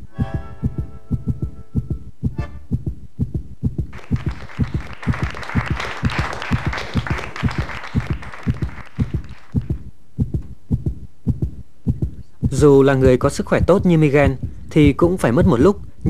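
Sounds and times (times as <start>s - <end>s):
fast heartbeat: 0.0s - 16.0s.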